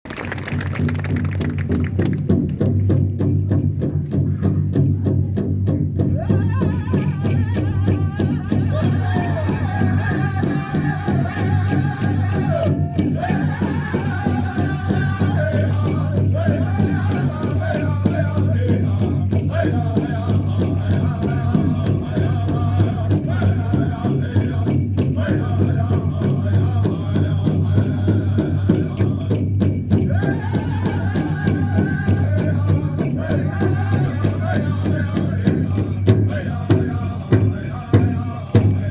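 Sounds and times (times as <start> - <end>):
fast steady drumbeat: 0.6 - 38.9
voices singing in unison: 6.2 - 38.9.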